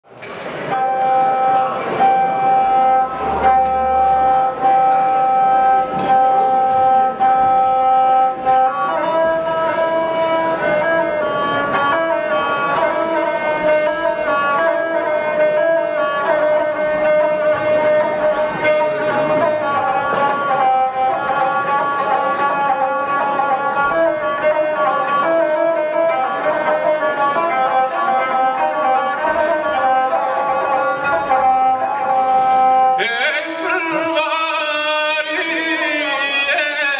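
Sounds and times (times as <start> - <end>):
bowed fiddle melody: 0.2 - 36.9.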